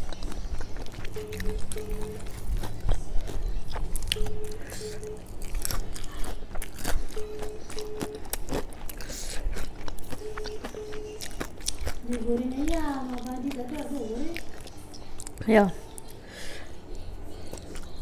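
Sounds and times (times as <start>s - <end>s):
crunching and chewing fried chicken: 0.0s - 18.0s.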